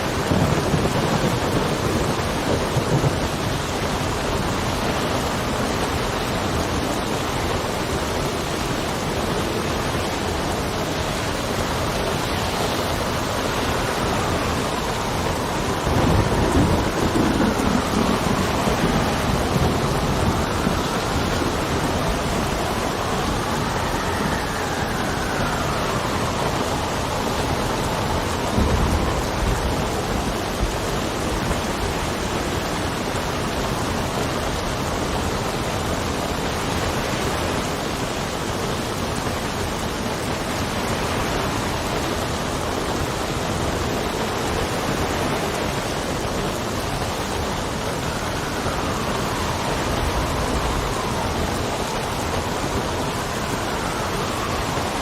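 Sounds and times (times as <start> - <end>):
low rumble of thunder: 0.0 - 37.6, 39.6 - 55.0
steady rain: 0.0 - 55.0
wind howling: 0.0 - 55.0.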